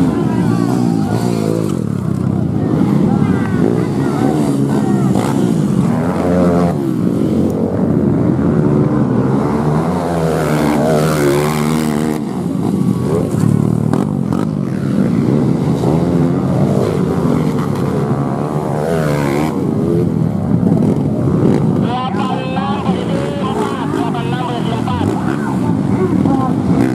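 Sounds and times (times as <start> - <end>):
motorcycles revving past: 0.0 - 26.9.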